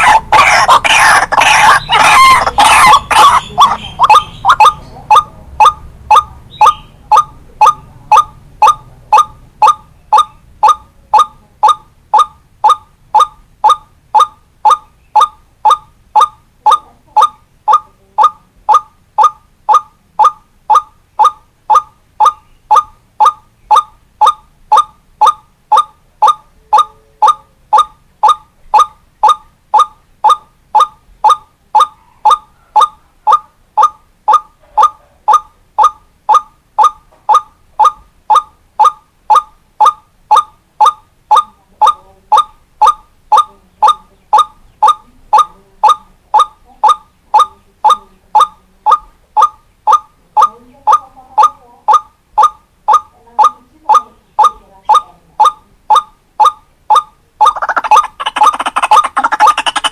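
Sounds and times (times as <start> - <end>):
waterhen call: 0.0 - 59.9.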